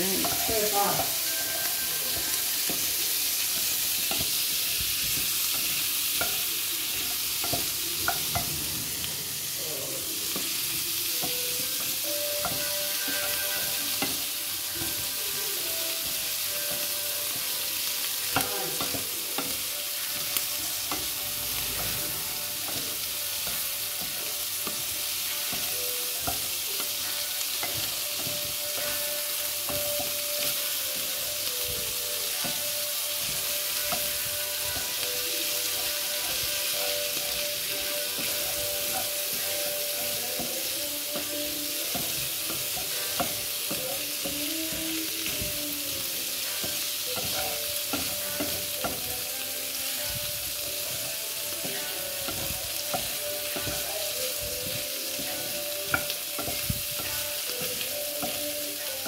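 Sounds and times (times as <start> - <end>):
asparagus sizzling in a frying pan: 0.0 - 59.0.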